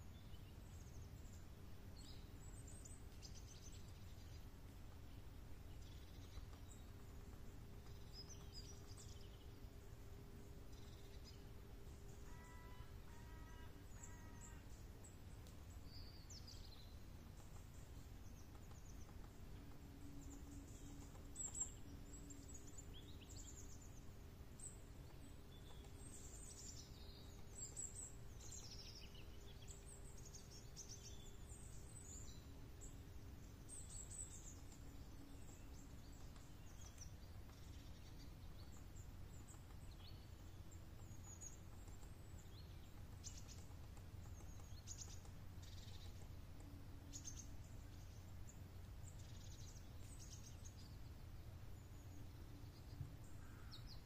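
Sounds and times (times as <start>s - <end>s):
low steady rumble: 0.0s - 54.0s
songbirds chirping: 0.0s - 54.0s.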